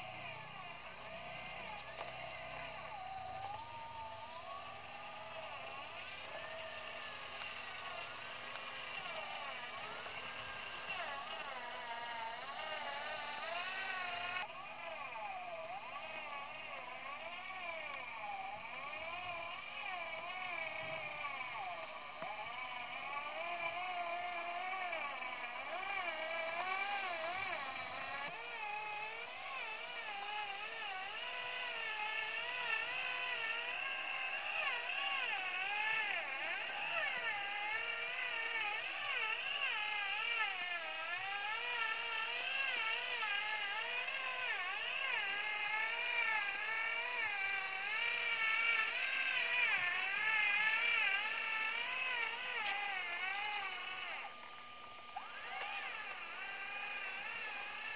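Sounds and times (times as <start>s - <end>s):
electric motor whining: 0.0s - 57.9s.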